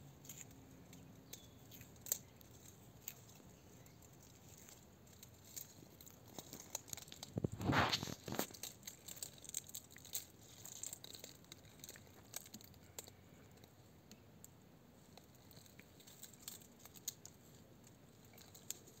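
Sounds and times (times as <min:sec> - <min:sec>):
tortoise chewing clicks: 0:00.1 - 0:19.0
soft tearing sounds: 0:00.2 - 0:13.8, 0:15.0 - 0:19.0.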